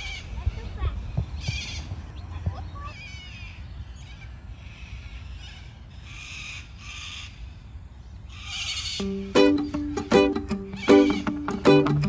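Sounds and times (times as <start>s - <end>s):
bird chirp: 0.0s - 12.0s
harsh bird calls: 0.0s - 12.0s.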